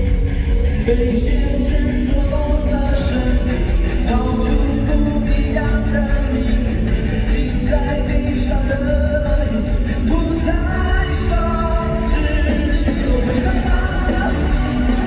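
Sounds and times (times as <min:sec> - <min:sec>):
amplified band music: 0:00.0 - 0:15.0
man singing into a microphone: 0:00.8 - 0:15.0.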